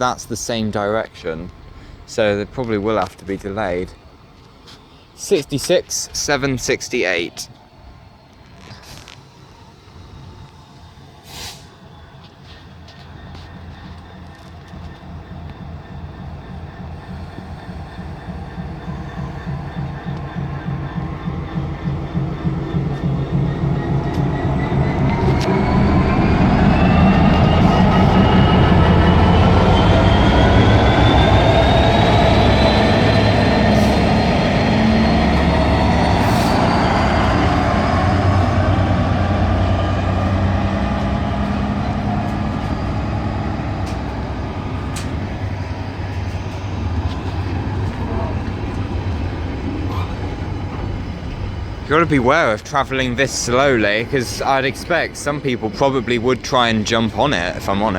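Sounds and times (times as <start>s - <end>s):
freight train rumbling: 0.0s - 57.9s
rising whine: 0.0s - 57.9s.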